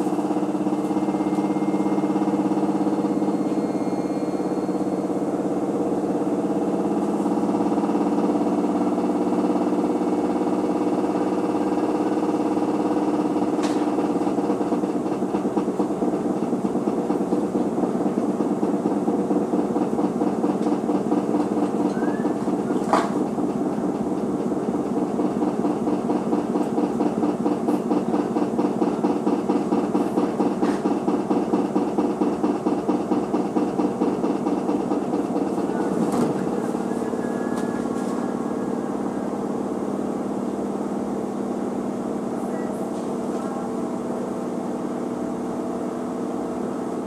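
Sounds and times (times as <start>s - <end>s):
washing machine motor hum: 0.0s - 47.0s.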